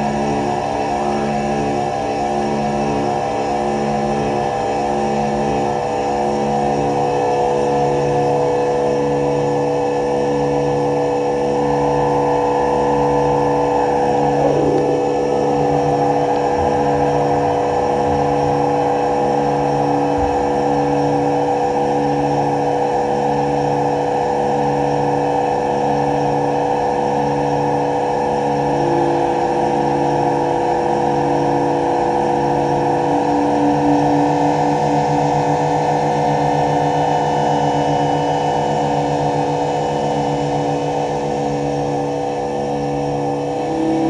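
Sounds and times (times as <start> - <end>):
electronic drone music: 0.0 - 44.0.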